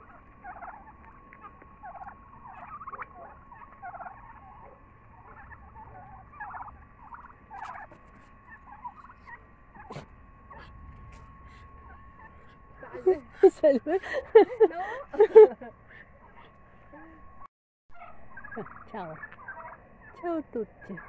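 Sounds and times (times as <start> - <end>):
young turkeys chattering: 0.0 - 17.2, 18.0 - 21.0.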